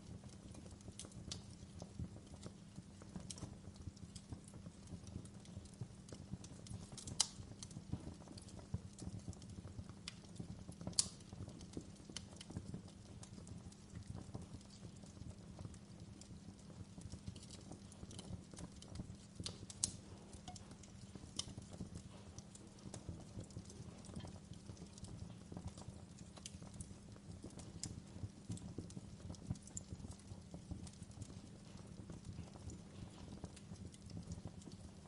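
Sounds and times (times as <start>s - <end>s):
fire crackles and snaps: 0.0s - 35.0s
fire rumbling in fireplace: 0.0s - 35.0s.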